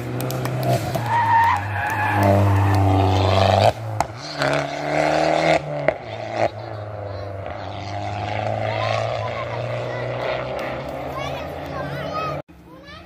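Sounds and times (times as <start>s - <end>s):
race car engine revving: 0.0s - 12.4s.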